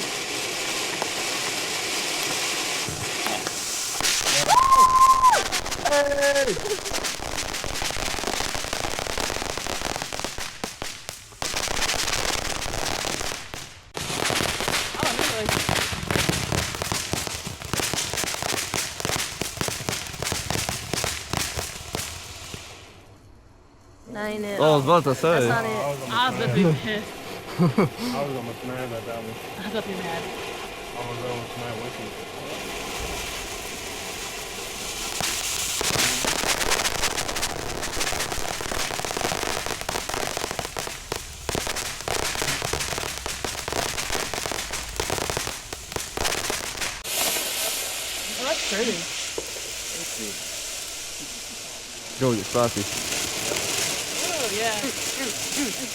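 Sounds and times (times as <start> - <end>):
firework crackling: 0.0 - 55.9
firework fountain hissing: 0.0 - 55.9.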